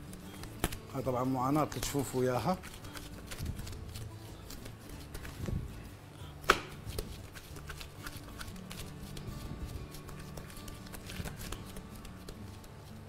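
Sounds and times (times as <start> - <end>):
hands patting and rubbing dough: 0.0 - 13.0.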